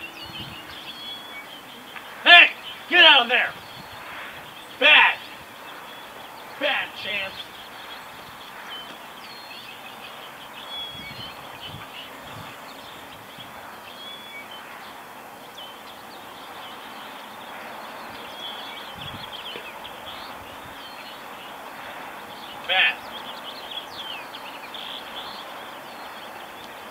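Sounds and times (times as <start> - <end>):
small birds chirping: 0.0 - 26.9
steady outdoor hiss: 0.0 - 26.9.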